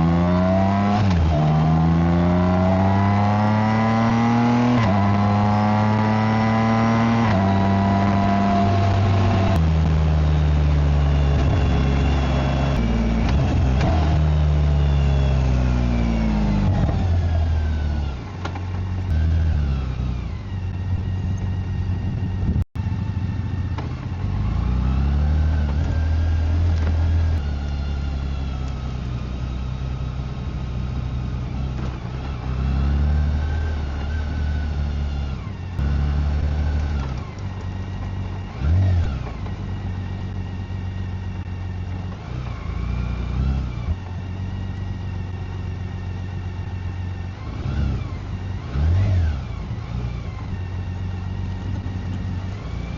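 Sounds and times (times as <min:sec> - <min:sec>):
motorcycle engine and exhaust: 0:00.0 - 0:52.9.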